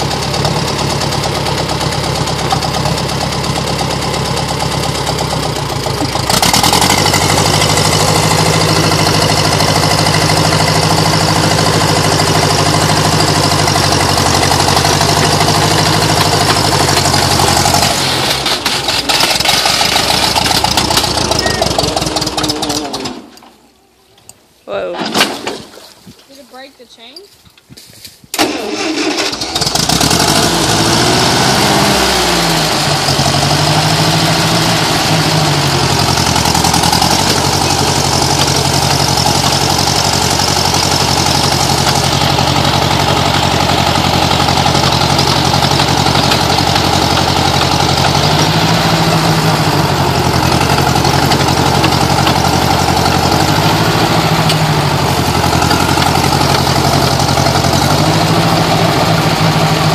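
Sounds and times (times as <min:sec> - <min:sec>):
tractor engine revving: 0:00.0 - 0:23.8, 0:28.3 - 0:59.9.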